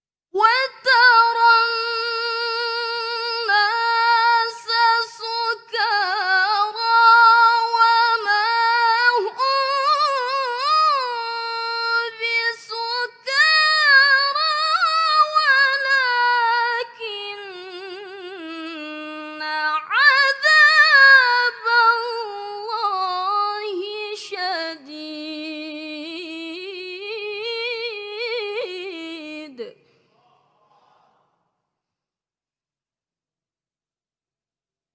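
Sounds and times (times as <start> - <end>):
girl reciting melodically: 0.4 - 29.7.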